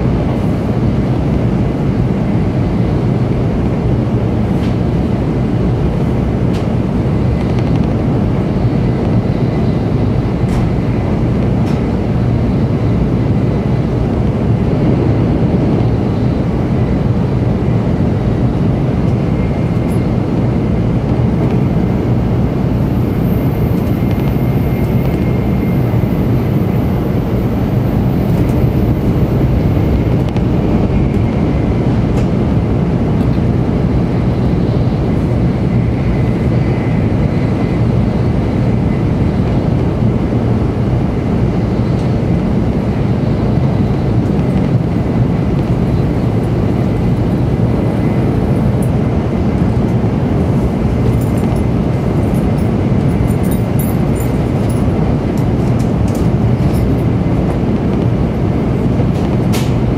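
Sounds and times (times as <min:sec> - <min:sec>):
train cabin rumble and rushing air: 0:00.0 - 0:59.9.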